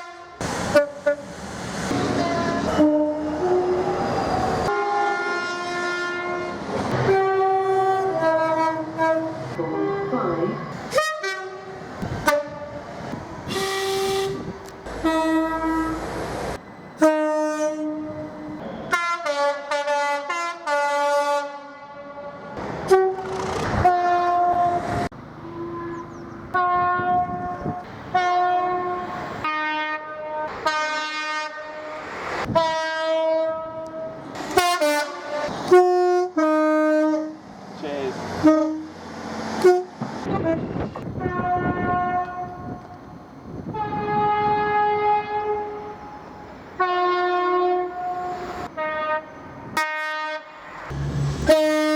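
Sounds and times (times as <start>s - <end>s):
multi-tone train horn tune: 0.0s - 1.3s, 2.0s - 4.0s, 4.7s - 16.1s, 17.0s - 37.4s, 38.4s - 38.9s, 39.6s - 43.0s, 43.7s - 50.7s, 51.3s - 51.9s.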